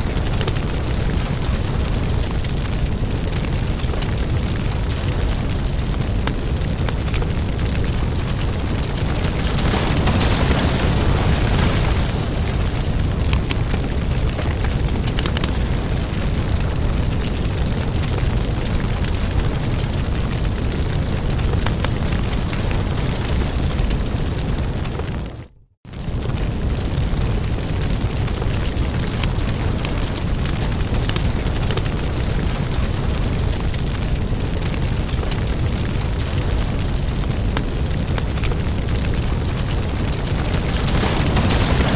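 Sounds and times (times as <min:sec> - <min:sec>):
fire crackles and pops: 0:00.0 - 0:41.9
wood fire rumble: 0:00.0 - 0:41.9.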